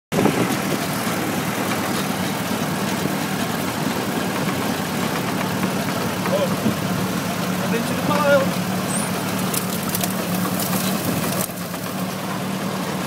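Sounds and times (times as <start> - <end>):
tractor engine running: 0.1 - 13.0.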